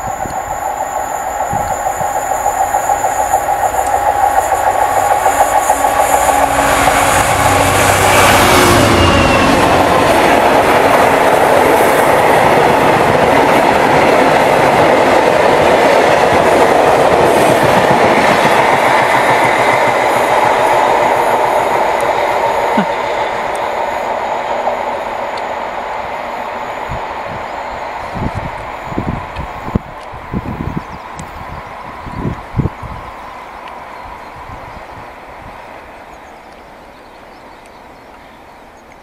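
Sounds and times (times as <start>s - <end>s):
freight train passing: 0.0s - 39.0s.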